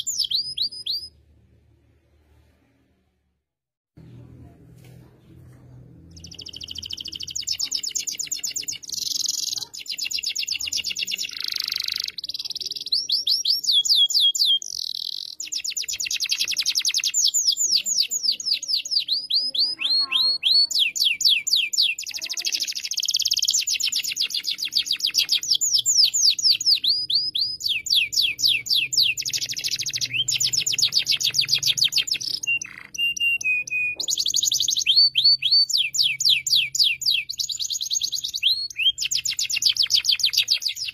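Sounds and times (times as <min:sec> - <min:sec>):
canary singing trills: 0:00.0 - 0:01.2, 0:06.1 - 0:40.9.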